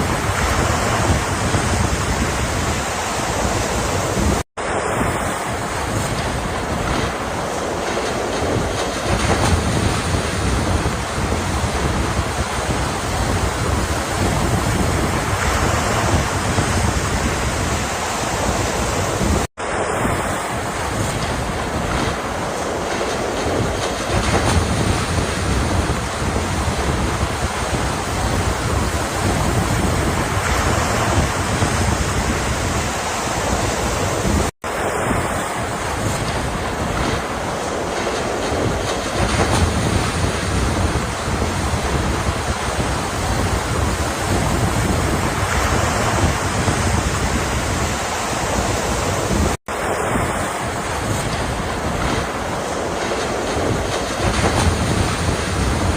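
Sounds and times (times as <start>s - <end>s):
ocean surf washing: 0.0s - 55.9s.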